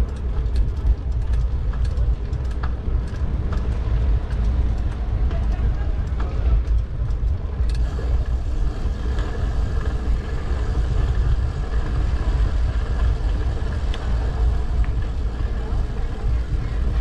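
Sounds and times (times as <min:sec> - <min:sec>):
steady low traffic rumble: 0:00.0 - 0:17.0.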